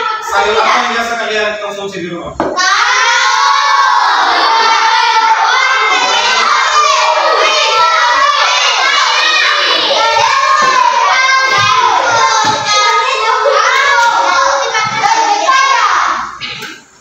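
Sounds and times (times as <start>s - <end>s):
children shouting and chattering: 0.0s - 1.0s, 2.6s - 17.0s.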